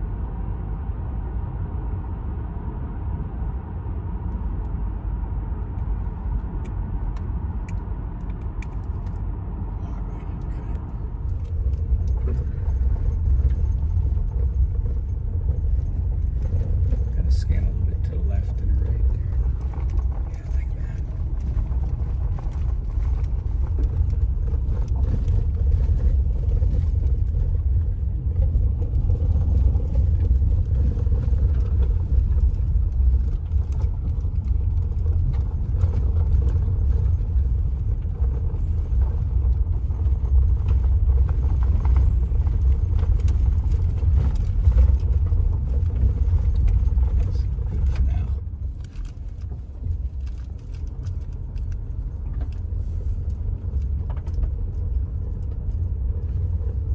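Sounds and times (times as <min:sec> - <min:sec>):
car driving on dirt road: 0:00.0 - 0:56.9
light rattles: 0:07.6 - 0:56.9.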